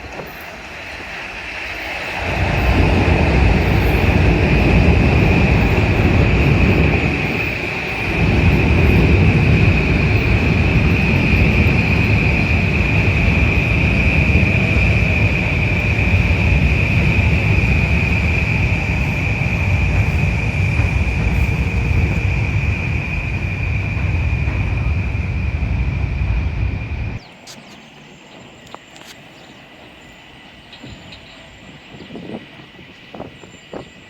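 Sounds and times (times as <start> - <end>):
gusty wind buffeting microphone: 0.0 - 27.4, 28.4 - 34.0
passing train: 0.0 - 34.0
steady high-pitched whine: 0.0 - 34.0.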